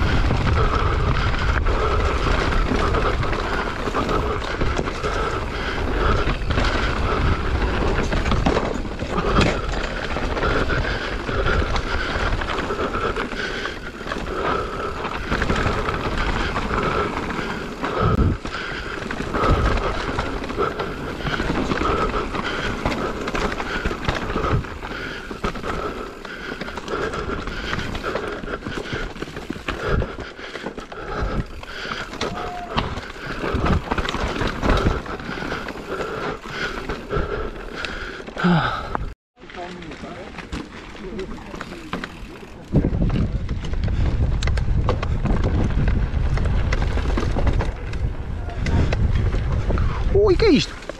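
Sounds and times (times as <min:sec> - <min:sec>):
bike knocking and rattling: 0:00.0 - 0:50.9
bike tyres rolling over dirt: 0:00.0 - 0:50.9.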